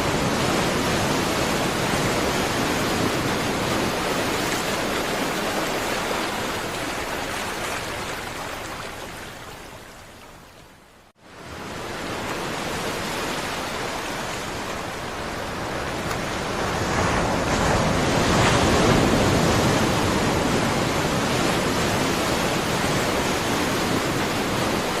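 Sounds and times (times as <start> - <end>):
waves rushing: 0.0 - 10.6, 11.2 - 25.0.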